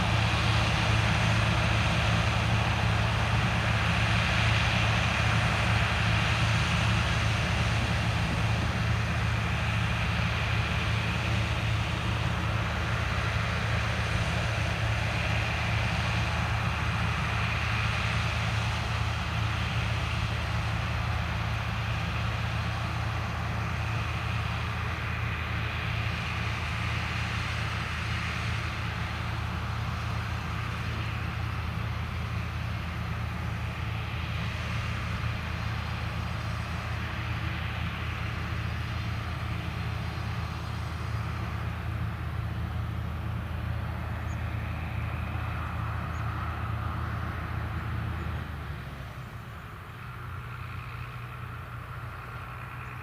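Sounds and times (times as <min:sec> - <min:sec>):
diesel farm machinery droning: 0:00.0 - 0:53.0.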